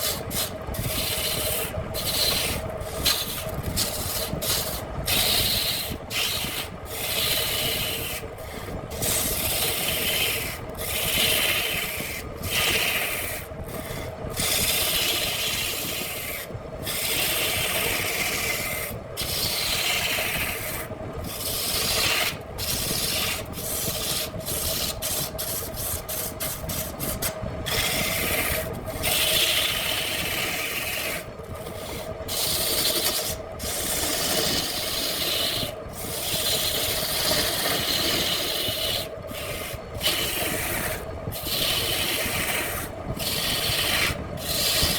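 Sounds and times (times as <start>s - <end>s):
lathe motor hum: 0.0s - 44.9s
tool scraping spinning wood: 0.0s - 44.9s.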